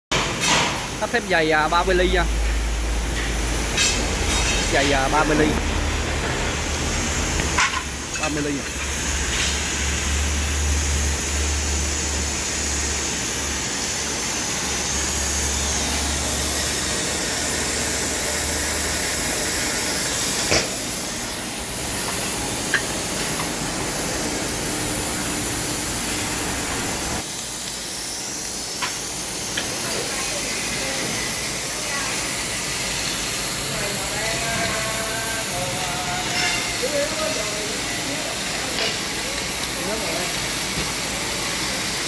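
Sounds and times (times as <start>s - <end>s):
laser cutter gas jet hiss: 0.1s - 42.0s.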